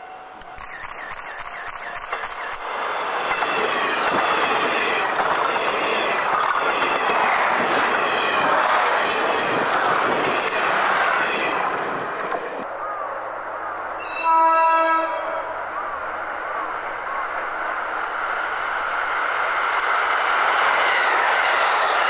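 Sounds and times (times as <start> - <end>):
diesel train passing at speed: 0.0 - 22.0.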